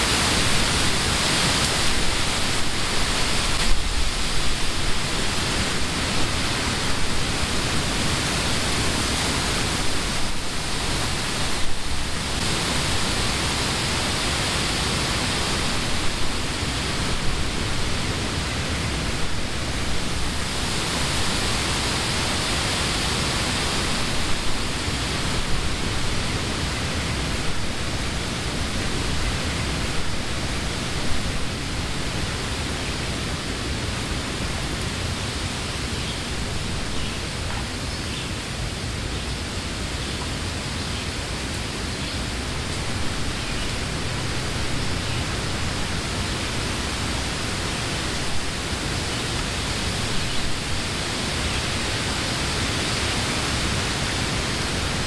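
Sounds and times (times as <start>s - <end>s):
wind rustling leaves: 0.0s - 55.0s.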